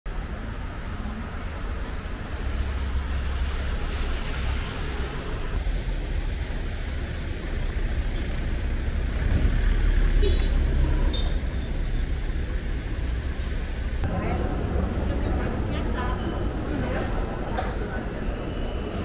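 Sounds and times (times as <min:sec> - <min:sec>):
road traffic noise: 0:00.1 - 0:19.0.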